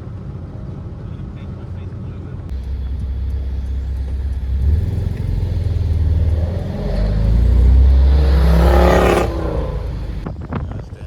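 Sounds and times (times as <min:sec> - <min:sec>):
car engine and tyres rumbling: 0:00.0 - 0:10.6.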